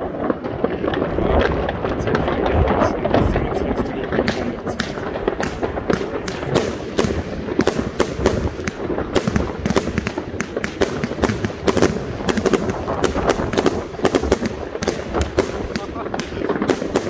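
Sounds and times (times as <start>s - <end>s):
firework bursting cracks: 0.0s - 17.0s
firework launch thumps: 3.0s - 17.0s.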